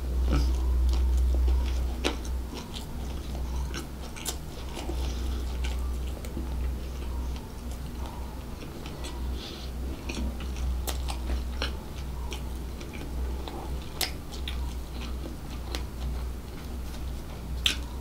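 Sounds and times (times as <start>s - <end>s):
low hum: 0.0s - 18.0s
wet chewing clicks and smacks: 0.3s - 18.0s.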